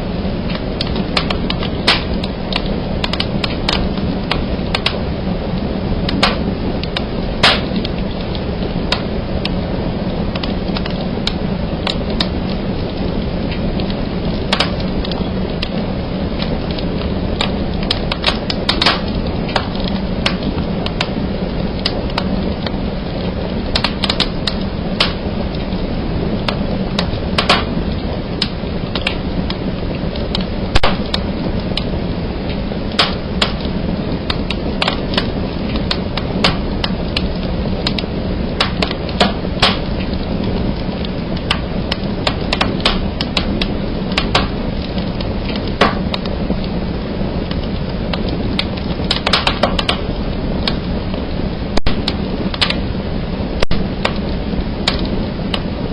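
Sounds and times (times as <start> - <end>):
fire burning in a fireplace: 0.0 - 55.9.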